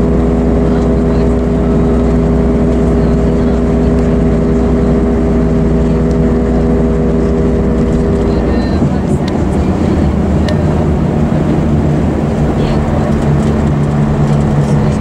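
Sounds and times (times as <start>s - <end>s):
diesel engine running: 0.0s - 15.0s
road noise: 0.0s - 15.0s.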